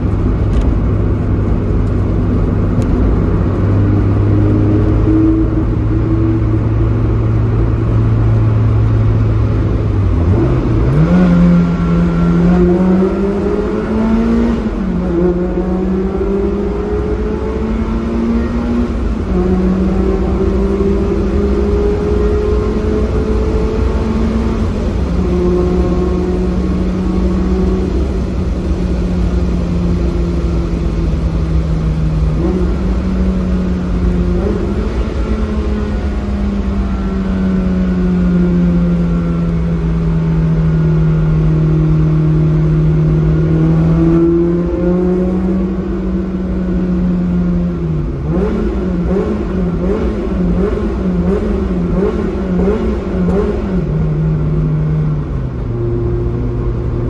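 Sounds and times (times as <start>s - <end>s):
car exhaust drone: 0.0s - 57.0s.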